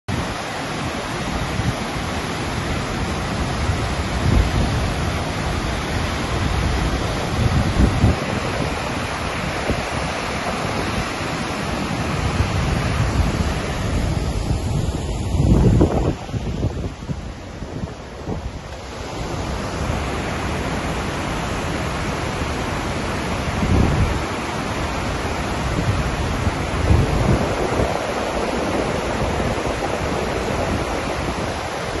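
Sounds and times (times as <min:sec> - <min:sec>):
water rushing down spillway: 0:00.1 - 0:32.0
wind buffeting microphone: 0:00.1 - 0:32.0.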